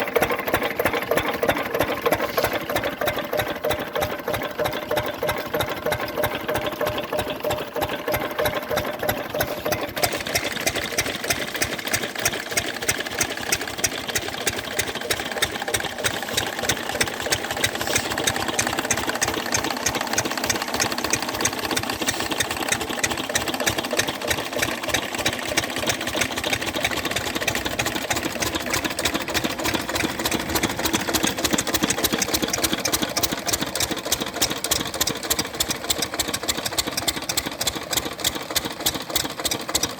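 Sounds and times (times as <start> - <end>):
farm machine engines knocking: 0.0 - 39.9.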